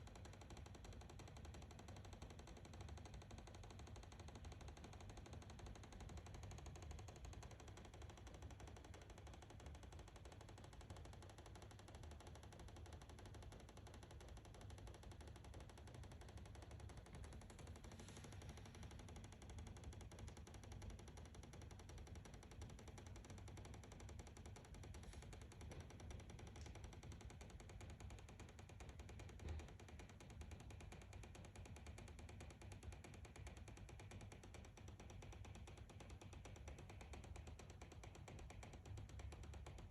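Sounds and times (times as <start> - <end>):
faint rapid clicking in wall: 0.0 - 39.9.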